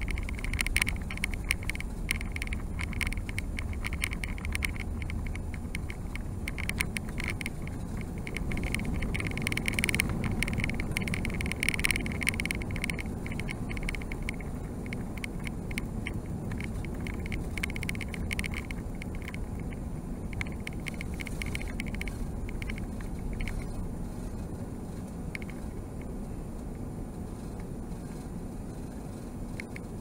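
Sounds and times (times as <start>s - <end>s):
aircraft engines roaring in cabin: 0.0s - 30.0s
light rattling: 0.0s - 30.0s.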